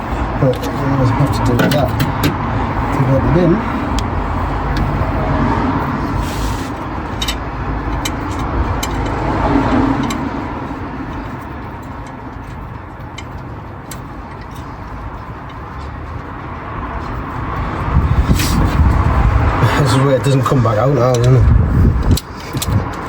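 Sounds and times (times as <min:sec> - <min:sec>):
passing road traffic: 0:00.0 - 0:23.0.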